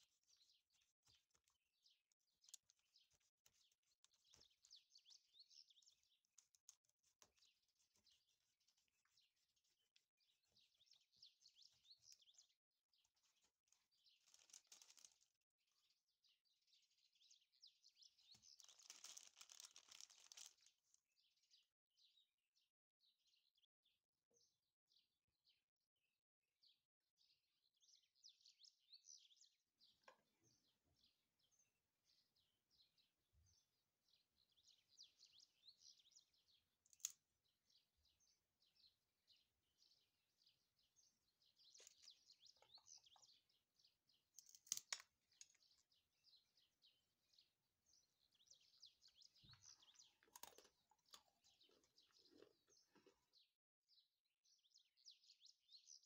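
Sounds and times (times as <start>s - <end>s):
faint bird chirping: 0.0s - 56.0s.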